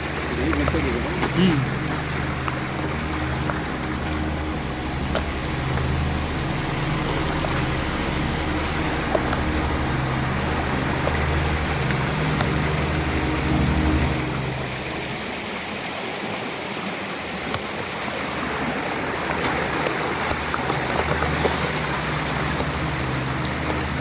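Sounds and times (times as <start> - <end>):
low pulsing drone: 0.0 - 16.7, 18.1 - 24.0
flowing water: 0.0 - 24.0.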